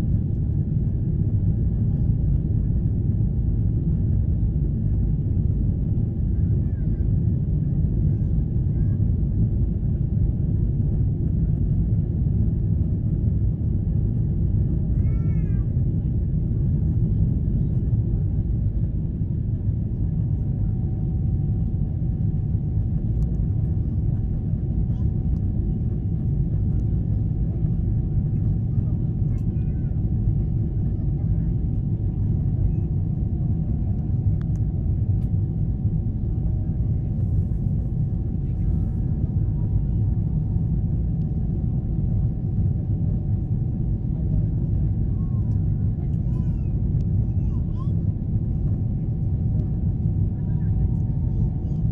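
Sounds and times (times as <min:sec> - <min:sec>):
airplane cabin rumble: 0:00.0 - 0:51.9.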